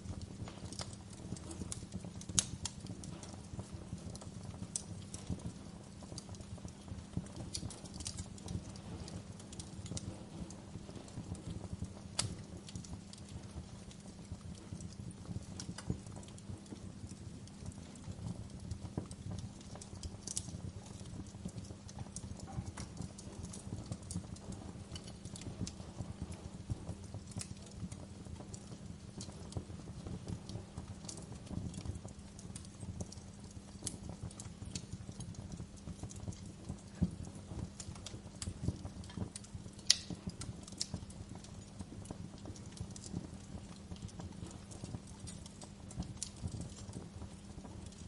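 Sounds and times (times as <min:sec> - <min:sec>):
low rumble of flames: 0:00.0 - 0:48.0
wood fire crackling: 0:00.0 - 0:48.0.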